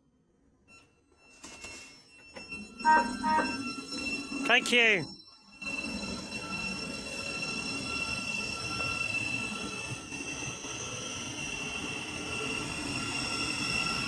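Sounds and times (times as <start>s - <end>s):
train wheels squealing: 0.7s - 14.0s.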